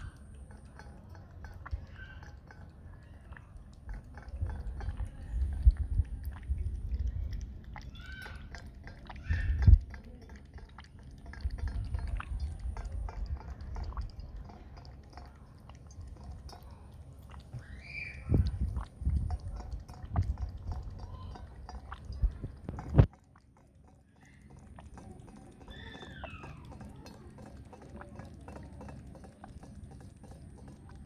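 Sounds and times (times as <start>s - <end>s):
cat lapping milk: 0.0s - 31.0s.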